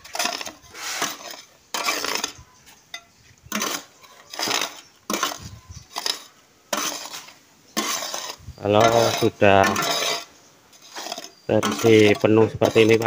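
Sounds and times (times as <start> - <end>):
scraper scraping concrete mix: 0.0 - 2.6, 3.4 - 13.0.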